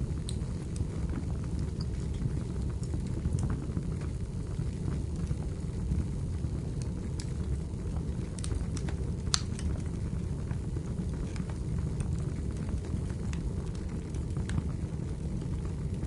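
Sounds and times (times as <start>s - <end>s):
fire rumbling: 0.0s - 16.0s
firewood crackling and popping: 0.0s - 16.0s.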